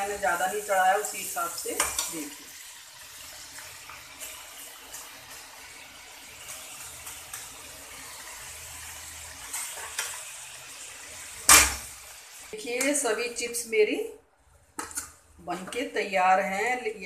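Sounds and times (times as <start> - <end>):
potato slices sizzling in oil: 0.0 - 17.0.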